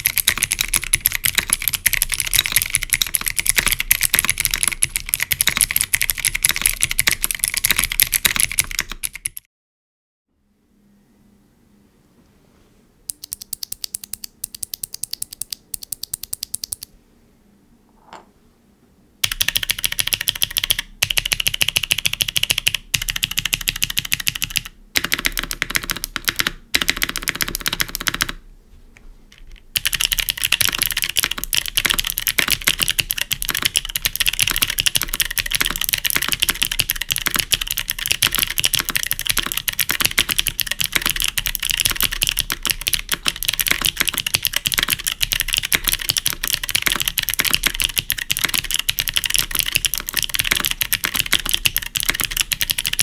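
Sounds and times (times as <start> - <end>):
fast typing with clicky keyboard switches: 0.0 - 9.5, 13.1 - 16.9, 19.2 - 28.4, 29.4 - 53.0.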